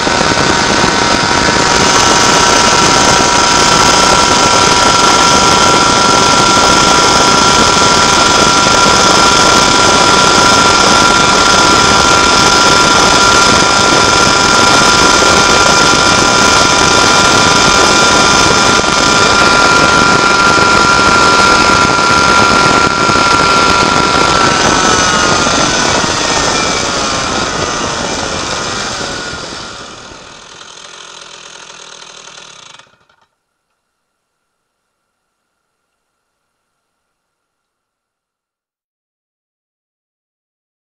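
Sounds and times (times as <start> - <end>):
kart engine running high pitch: 0.0 - 33.3.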